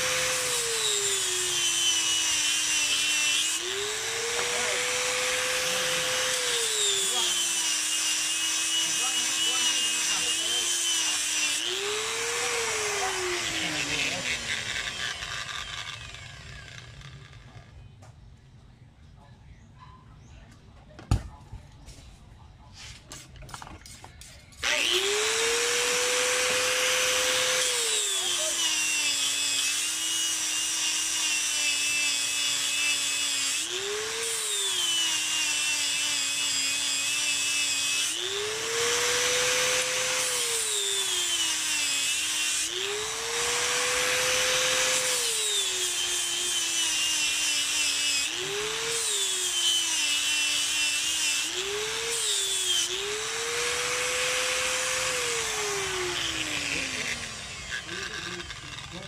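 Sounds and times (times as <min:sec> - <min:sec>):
angle grinder whine: 0:00.0 - 0:17.7, 0:24.6 - 0:59.0.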